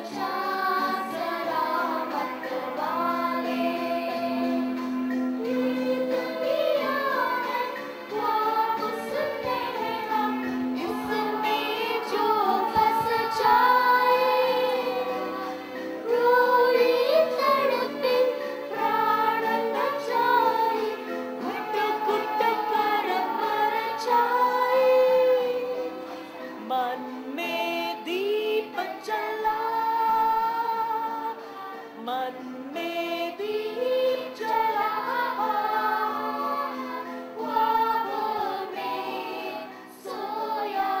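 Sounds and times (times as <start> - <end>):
girls choir singing: 0.0 - 32.1, 32.7 - 41.0.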